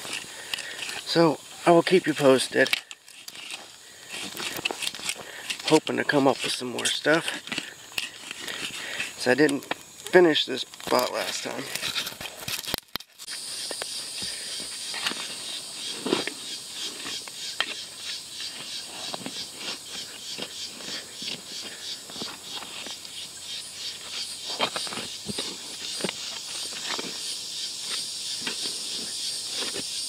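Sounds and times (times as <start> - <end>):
hand tools digging in soil: 0.0 - 30.0
insects buzzing: 0.0 - 30.0.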